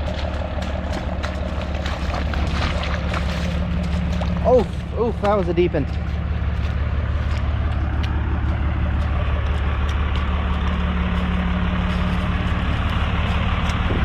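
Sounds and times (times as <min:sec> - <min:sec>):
truck engine running steadily: 0:00.0 - 0:14.0.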